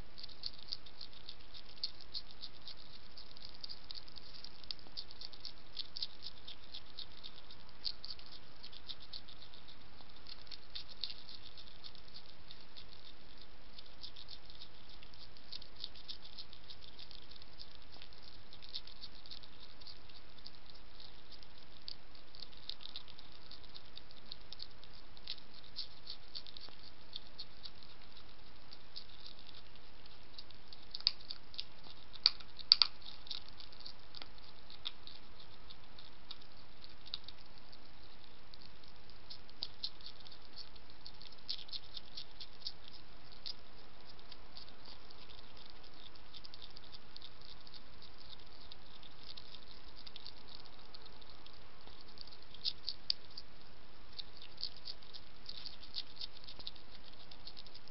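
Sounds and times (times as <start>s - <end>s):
faint hiss: 0.0s - 57.9s
hedgehog crunching biscuits: 0.0s - 57.9s.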